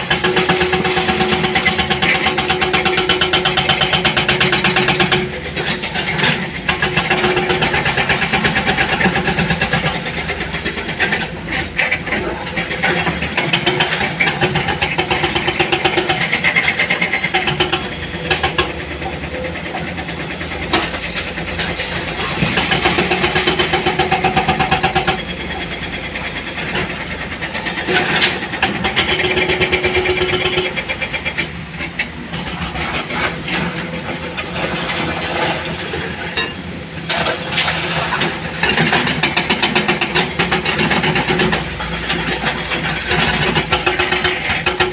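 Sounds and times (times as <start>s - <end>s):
heavy diesel machinery engine: 0.0s - 44.9s.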